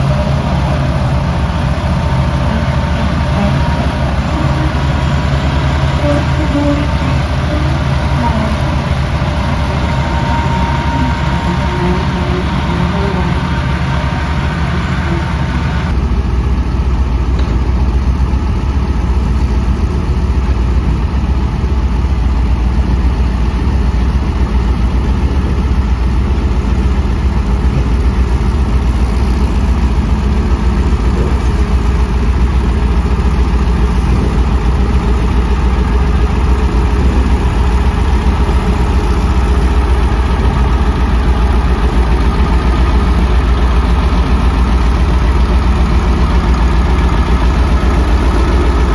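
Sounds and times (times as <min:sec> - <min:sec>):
diesel engine rumbling: 0:00.0 - 0:48.9.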